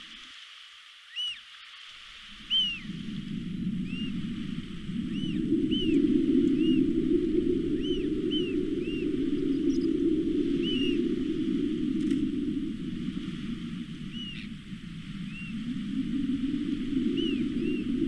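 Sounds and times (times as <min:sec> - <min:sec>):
low steady rushing noise: 0:01.7 - 0:18.0.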